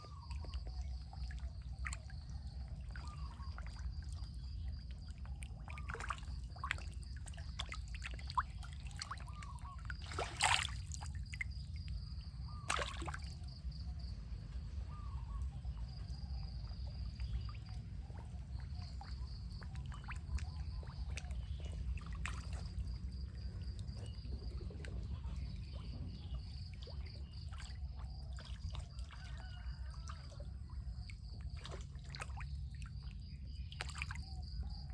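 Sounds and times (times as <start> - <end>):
water sloshing and splashing: 0.0 - 34.9.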